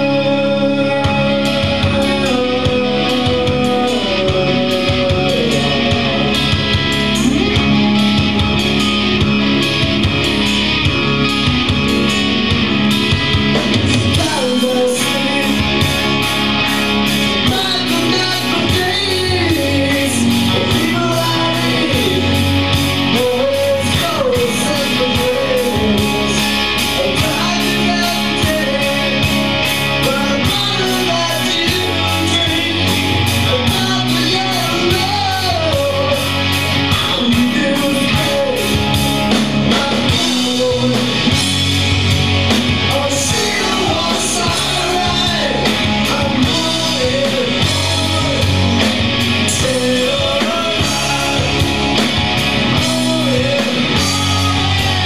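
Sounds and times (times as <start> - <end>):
person singing: 0.0 - 9.1, 13.8 - 55.0
live rock band playing: 0.0 - 55.0.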